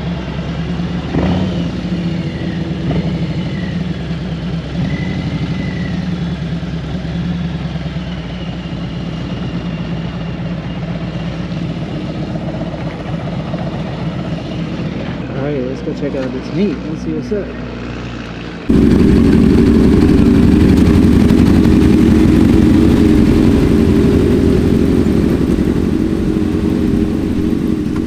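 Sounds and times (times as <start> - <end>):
motorcycle engine running at low revs: 0.0 - 15.3, 17.6 - 28.0.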